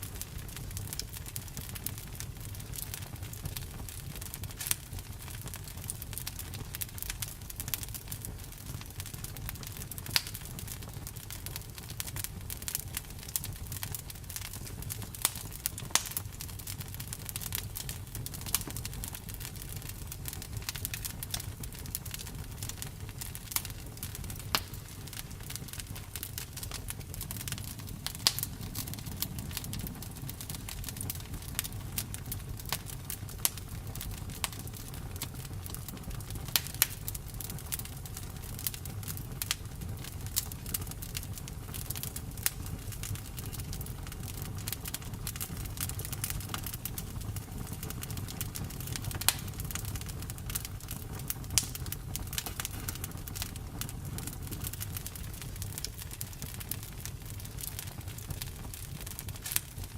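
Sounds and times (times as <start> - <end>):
low rumble of flames: 0.0 - 59.9
wood crackling and popping: 0.0 - 59.9.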